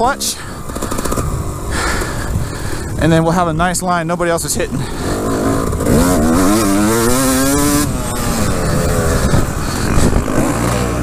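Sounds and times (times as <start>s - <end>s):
dirt bike engine revving: 0.0s - 3.4s, 4.2s - 11.0s.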